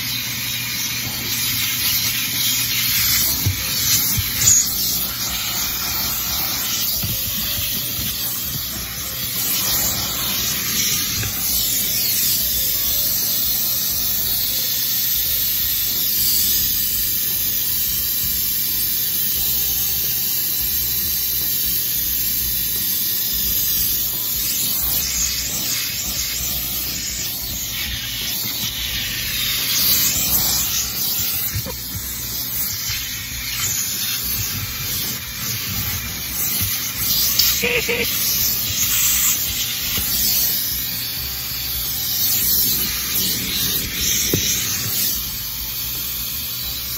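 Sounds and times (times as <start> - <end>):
shop vacuum running: 0.0 - 15.9, 22.9 - 46.9
vacuum nozzle sucking air: 0.0 - 46.9.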